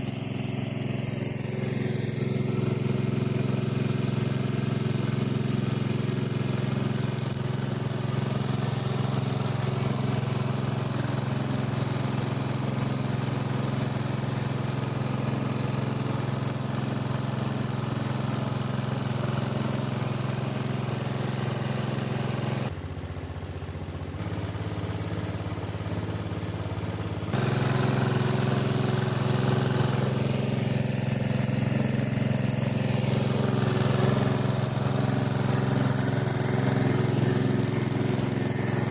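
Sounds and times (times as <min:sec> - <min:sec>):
water pump engine running: 0:00.0 - 0:38.9.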